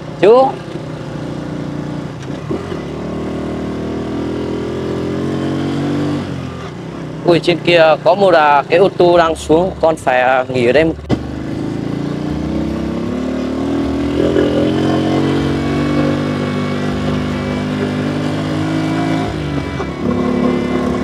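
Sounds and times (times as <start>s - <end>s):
motorbike engine running: 0.0s - 21.0s.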